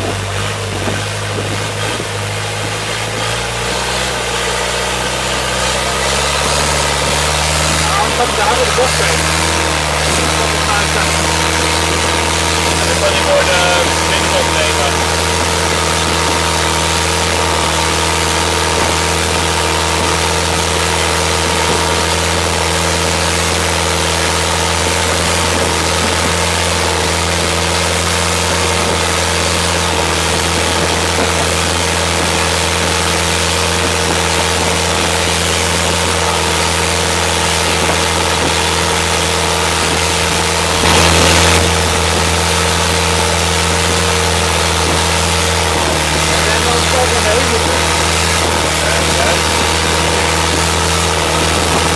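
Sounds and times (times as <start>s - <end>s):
boat engine running: 0.0s - 51.9s
water rushing along hull: 0.0s - 51.9s.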